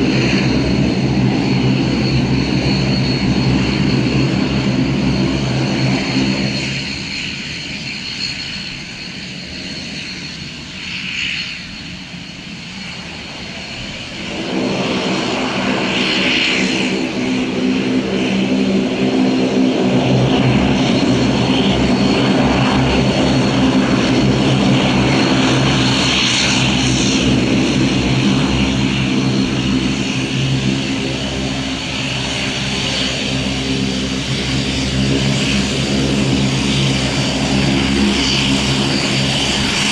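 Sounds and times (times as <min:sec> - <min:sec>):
propeller drone: 0:00.0 - 0:39.9
turboprop engine whine: 0:00.0 - 0:39.9.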